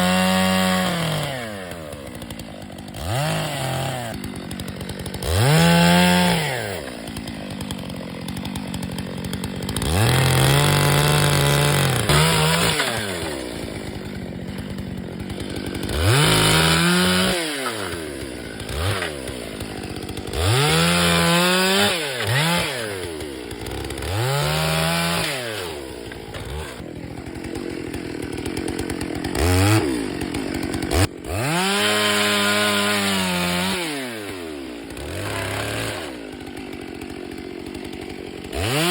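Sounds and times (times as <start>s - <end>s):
chainsaw revving and cutting logs: 0.0s - 38.9s.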